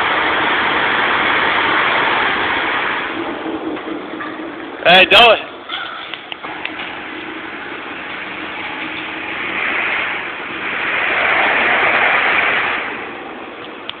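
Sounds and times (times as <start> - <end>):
locked truck wheels scraping ground: 0.0 - 14.0.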